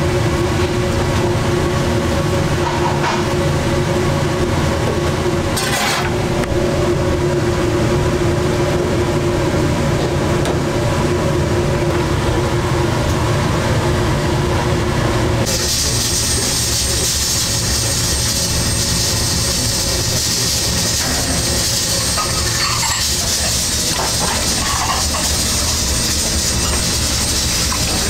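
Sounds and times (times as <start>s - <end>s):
kitchen equipment rumble and hum: 0.0s - 28.0s.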